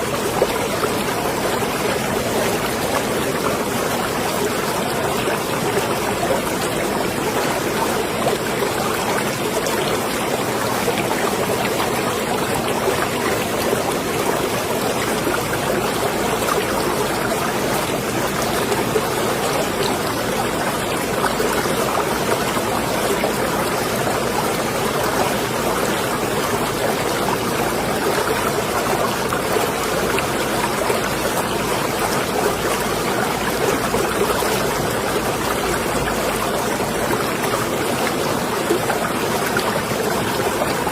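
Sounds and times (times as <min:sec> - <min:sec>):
water lapping and splashing: 0:00.0 - 0:40.9.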